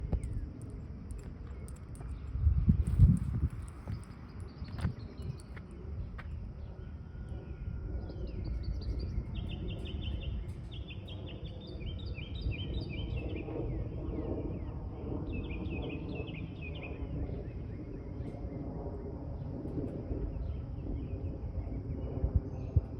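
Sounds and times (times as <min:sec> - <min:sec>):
songbirds trilling: 0:00.0 - 0:18.7
steady low rumble: 0:00.0 - 0:22.9.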